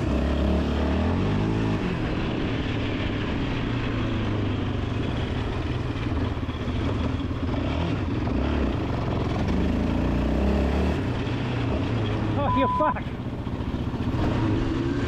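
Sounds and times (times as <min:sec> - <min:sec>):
motorbike engine running: 0:00.0 - 0:15.0.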